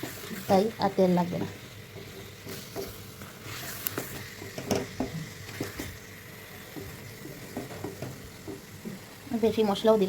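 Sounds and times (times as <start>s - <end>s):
spatula scraping a pan: 0.0s - 0.9s, 1.8s - 9.0s
chicken sizzling in a pan: 0.0s - 10.0s.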